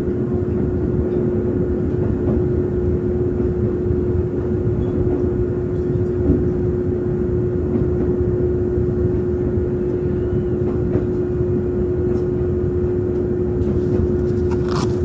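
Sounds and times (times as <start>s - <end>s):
constant hum: 0.0s - 15.0s
train rumble: 0.0s - 15.0s.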